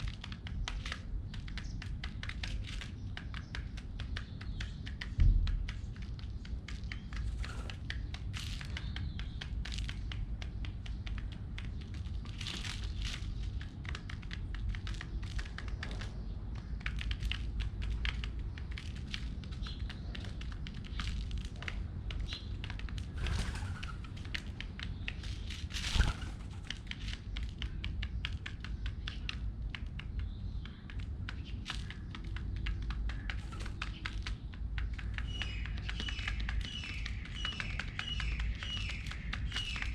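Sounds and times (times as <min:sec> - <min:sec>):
pigeons pecking at seeds: 0:00.0 - 0:39.9.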